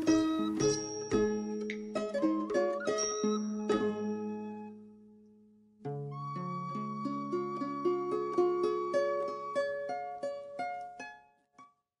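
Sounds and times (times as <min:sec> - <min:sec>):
plucked-string notes: 0:00.0 - 0:04.9, 0:05.8 - 0:11.7.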